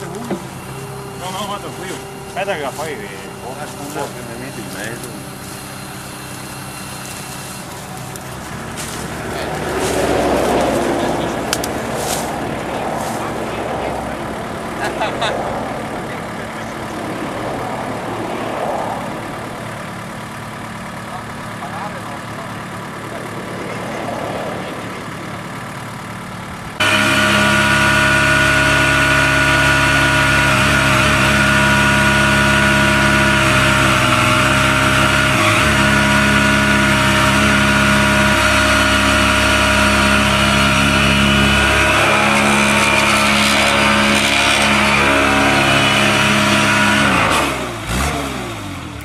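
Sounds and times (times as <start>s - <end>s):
tractor engine revving with whine: 0.0s - 49.0s.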